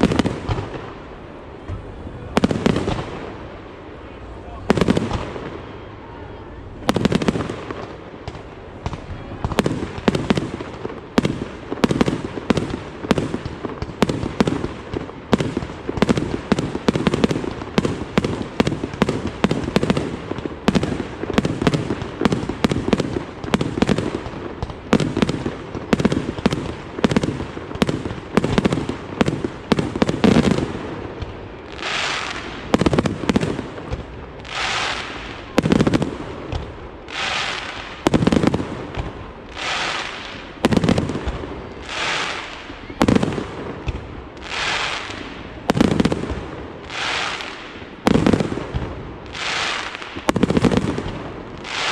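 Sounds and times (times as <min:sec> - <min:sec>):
fireworks launching and bursting: 0:00.0 - 0:51.9.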